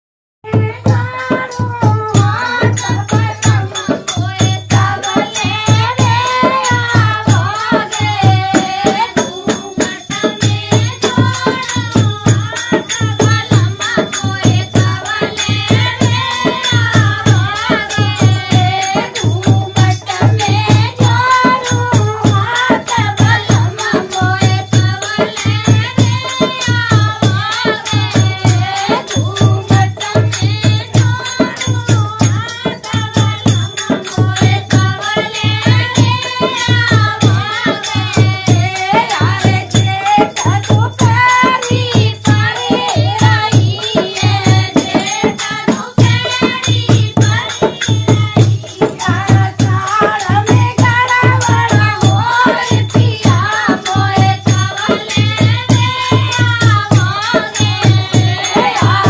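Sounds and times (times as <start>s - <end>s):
drum beat: 0.4s - 59.0s
rattling percussion: 0.5s - 59.0s.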